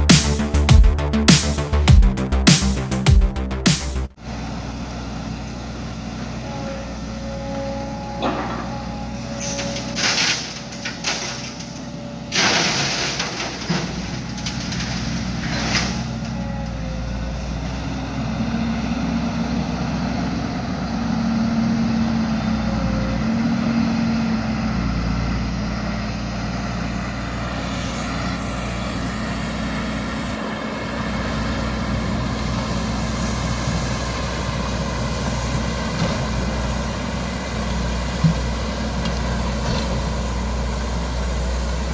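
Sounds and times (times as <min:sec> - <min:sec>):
heavy diesel engines running: 0:00.0 - 0:41.9.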